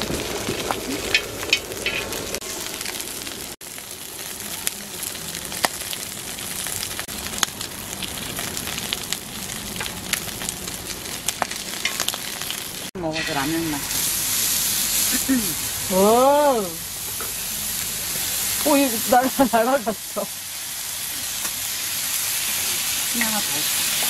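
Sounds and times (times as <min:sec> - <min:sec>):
meat sizzling on a griddle: 0:00.0 - 0:24.0.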